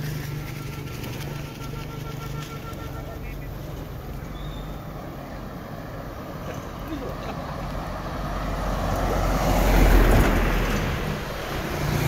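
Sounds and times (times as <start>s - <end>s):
low steady engine hum: 0.0s - 12.0s
vehicle passing by: 0.0s - 12.0s.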